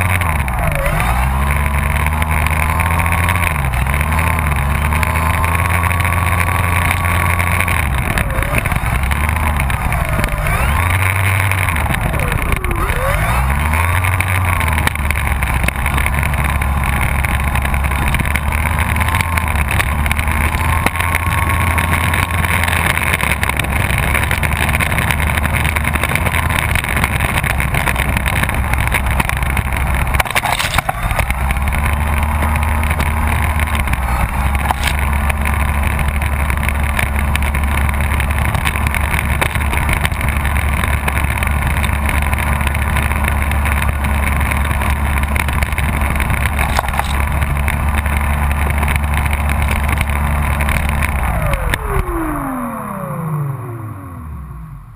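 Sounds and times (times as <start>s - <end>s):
low rumble: 0.0s - 54.9s
model plane motor and propeller: 0.0s - 54.9s.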